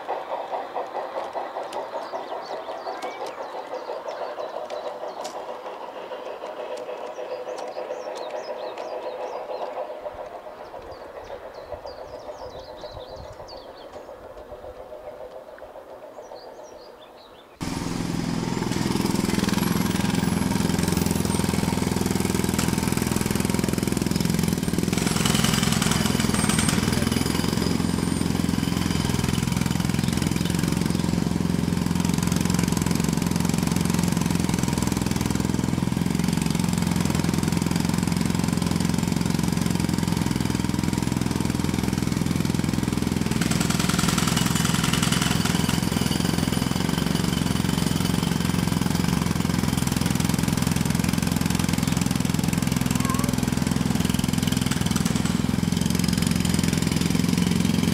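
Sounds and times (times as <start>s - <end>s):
engine running with rattling beat: 0.0s - 16.0s, 17.6s - 57.9s.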